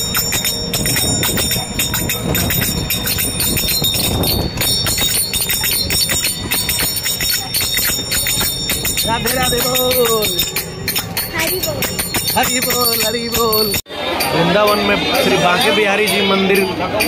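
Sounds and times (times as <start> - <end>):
brass hand cymbals clashing: 0.0 - 16.8
rickshaw road rumble: 0.0 - 17.0.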